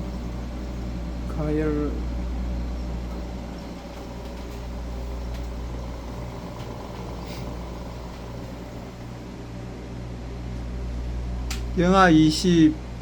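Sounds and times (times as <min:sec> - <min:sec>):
freezer humming: 0:00.0 - 0:13.0.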